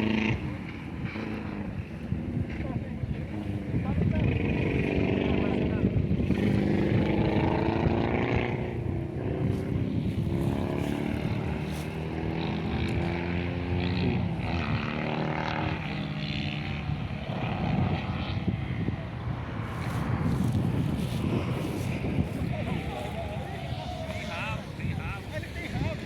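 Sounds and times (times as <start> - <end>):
low wind rumble: 0.0 - 26.0
propeller motor droning: 0.0 - 26.0.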